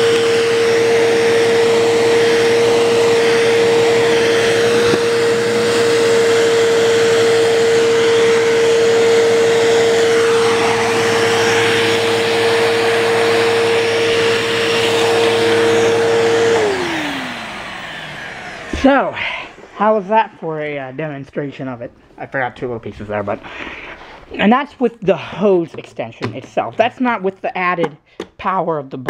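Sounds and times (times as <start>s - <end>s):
vacuum cleaner motor whine: 0.0s - 24.5s.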